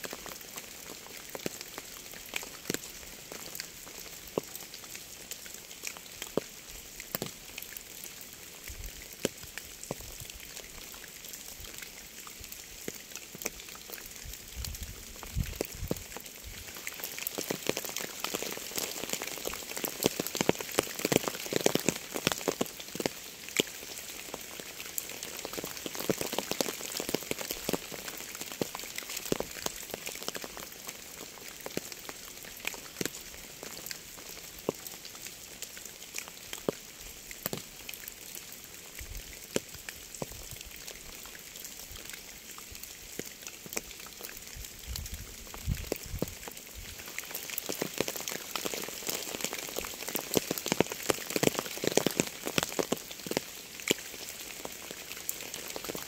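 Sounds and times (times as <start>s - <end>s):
raindrops ticking close by: 0.0s - 56.0s
steady rainfall hiss: 0.0s - 56.0s.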